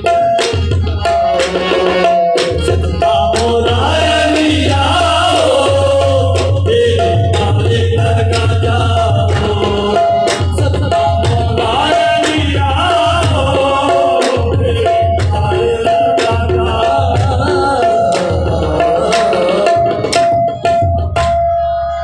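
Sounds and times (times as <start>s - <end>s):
fast tabla rhythm: 0.0s - 22.0s
harmoniums playing held notes: 0.0s - 22.0s.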